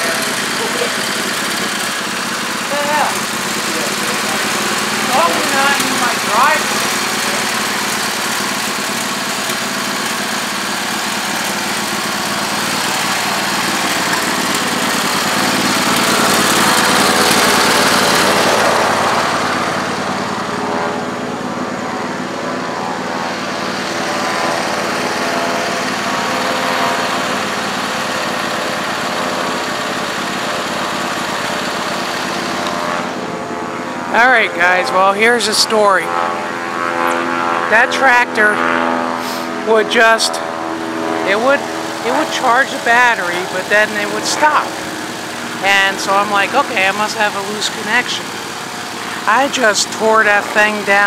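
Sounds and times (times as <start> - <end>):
broad rushing noise: 0.0 - 51.0
lawn tractor engine running: 0.0 - 51.0.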